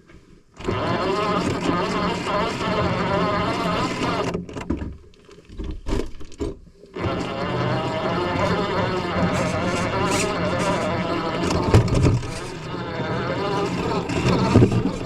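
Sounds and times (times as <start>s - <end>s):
motor-like hum: 0.6s - 4.7s, 6.9s - 15.0s.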